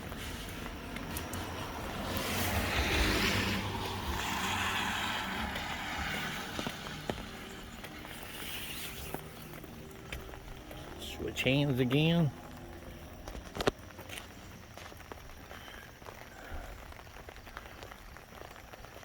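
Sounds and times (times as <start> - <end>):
light rain patter: 0.0 - 19.0
tyres hissing on wet road: 0.0 - 19.0.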